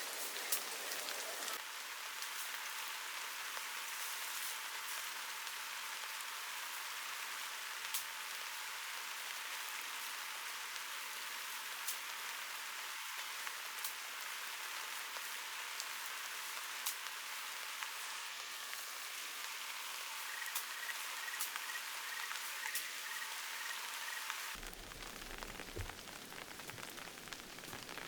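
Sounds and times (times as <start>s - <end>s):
steady rain hissing: 0.0s - 28.0s.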